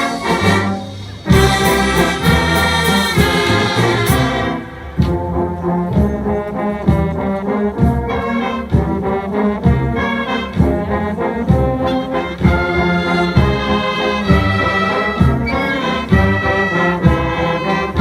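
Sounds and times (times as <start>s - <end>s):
brass band playing a hymn: 0.0s - 18.0s
steady low beat: 0.0s - 18.0s.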